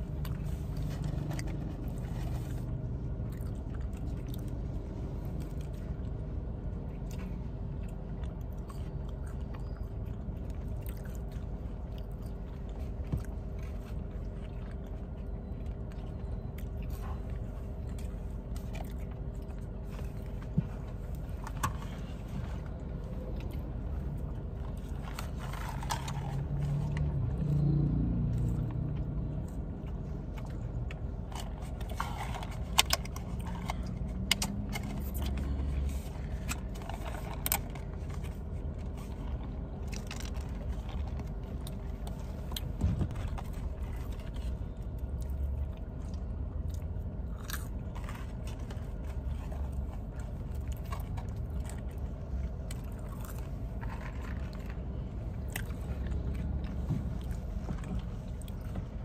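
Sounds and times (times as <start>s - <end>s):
chewing and crunching fries: 0.0s - 59.0s
steady low rumble: 0.0s - 59.0s.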